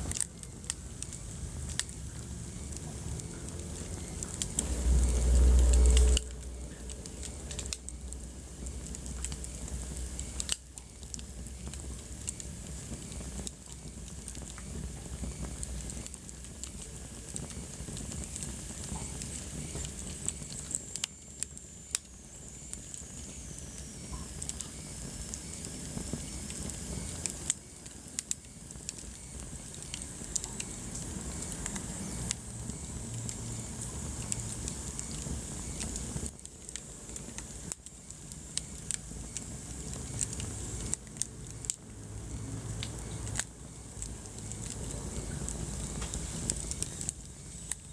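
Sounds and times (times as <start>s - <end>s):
fire crackling and popping: 0.0s - 47.9s
fire rumbling and hissing: 0.0s - 47.9s.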